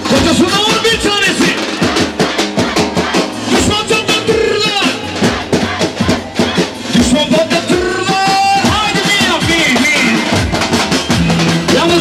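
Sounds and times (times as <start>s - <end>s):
loud dance music: 0.1s - 12.0s.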